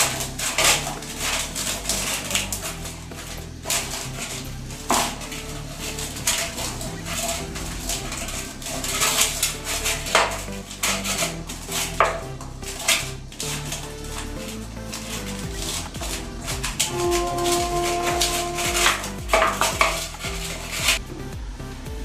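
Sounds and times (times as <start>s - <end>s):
steel pots and utensils clinking: 0.0s - 21.0s.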